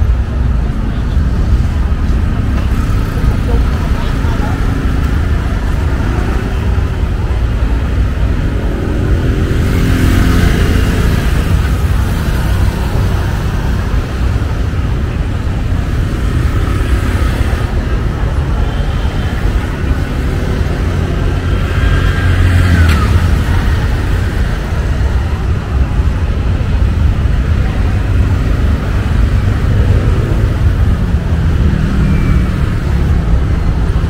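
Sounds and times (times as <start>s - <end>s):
faint voices of passers-by: 0.0s - 34.0s
traffic rumble: 0.0s - 34.0s.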